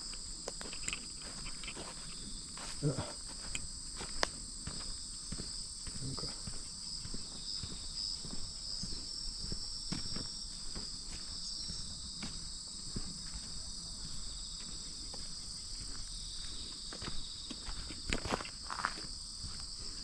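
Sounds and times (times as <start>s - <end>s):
footsteps: 0.0s - 20.0s
insects trilling: 0.0s - 20.0s.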